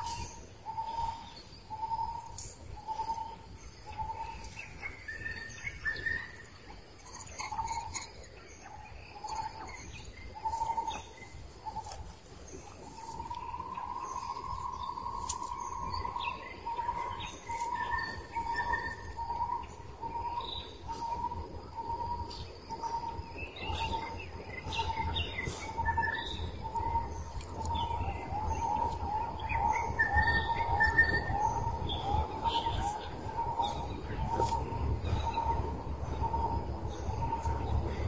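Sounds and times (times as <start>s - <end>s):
higher bird chirps: 0.0s - 38.0s.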